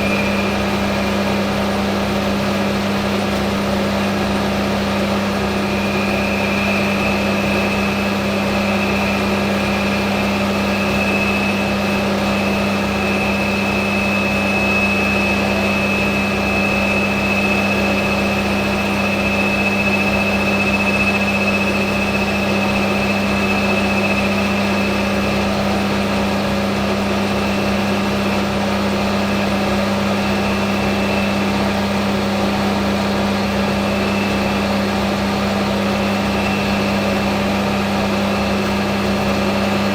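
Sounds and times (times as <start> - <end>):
thin high whine: 0.0 - 1.8, 4.7 - 39.9
metal lathe motor hum: 0.0 - 39.9.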